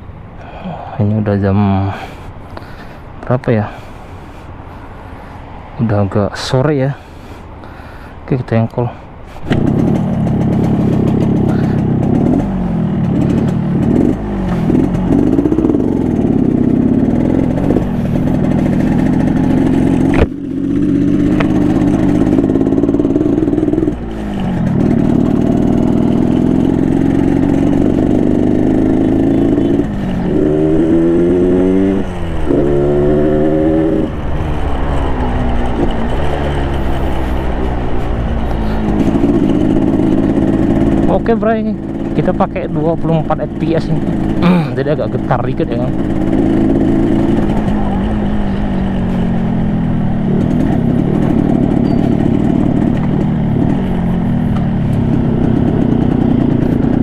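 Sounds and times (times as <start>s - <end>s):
two-stroke motorcycle engine revving: 9.4s - 57.0s.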